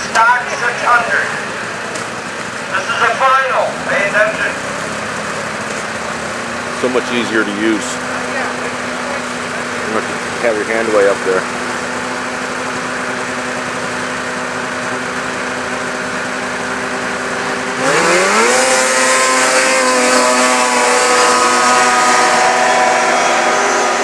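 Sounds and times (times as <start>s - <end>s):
snowmobile engines revving: 0.0s - 24.0s.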